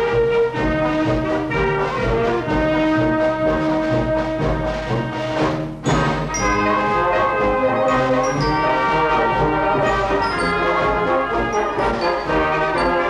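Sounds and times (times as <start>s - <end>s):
brass-led orchestral music: 0.0s - 13.0s.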